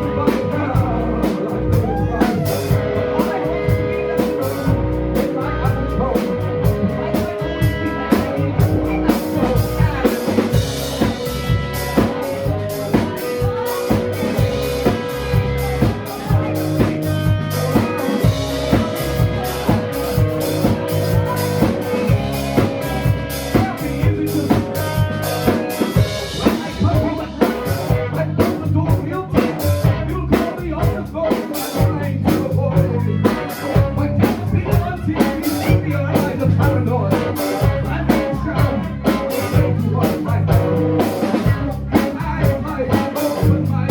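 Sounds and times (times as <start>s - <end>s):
bass guitar: 0.0s - 43.9s
drum kit beat: 0.0s - 43.9s
guitar: 0.0s - 43.9s.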